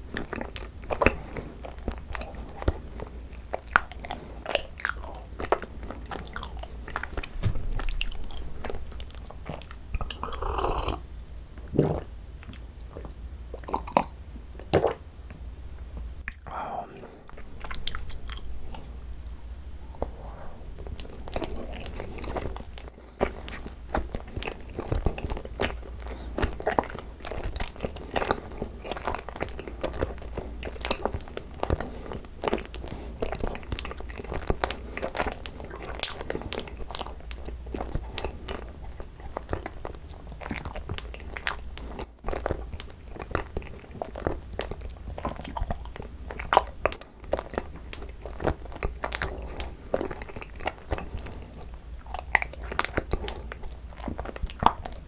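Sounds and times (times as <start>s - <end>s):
wet crunchy chewing: 0.0s - 11.1s, 16.3s - 55.0s.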